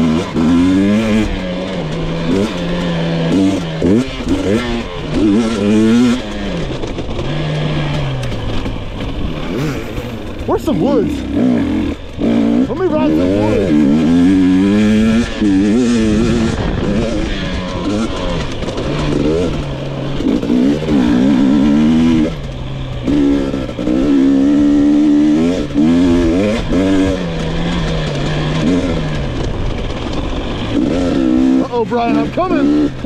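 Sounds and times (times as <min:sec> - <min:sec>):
two-stroke engine revving: 0:00.0 - 0:33.0.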